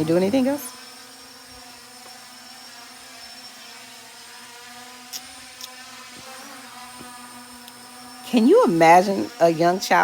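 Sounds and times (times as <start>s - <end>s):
drone propellers whirring: 0.0s - 10.0s.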